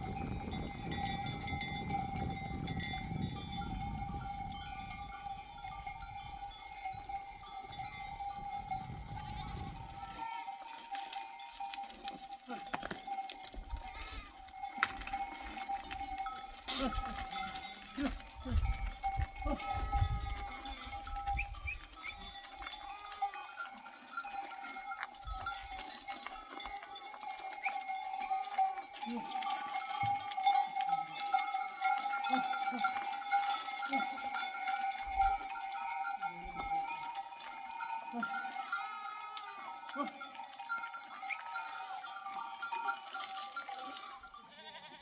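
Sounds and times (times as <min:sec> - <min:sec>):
sheep bells clinking: 0:00.0 - 0:45.0.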